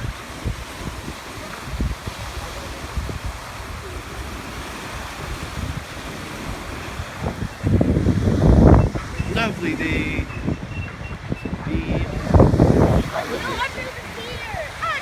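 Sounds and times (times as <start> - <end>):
ocean surf on a beach: 0.0 - 15.0
wind buffeting microphone: 0.0 - 15.0.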